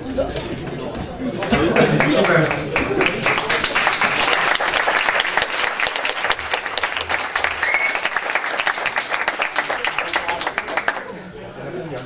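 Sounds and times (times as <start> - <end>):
audience clapping: 1.4 - 11.2.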